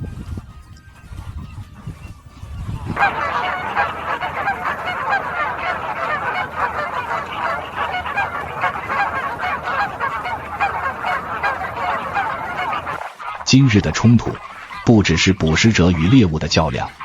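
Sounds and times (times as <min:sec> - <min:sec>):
flamingos honking: 0:02.7 - 0:17.0.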